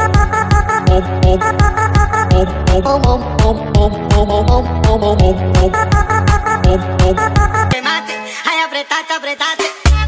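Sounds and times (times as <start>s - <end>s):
fast electronic dance music: 0.0s - 10.0s.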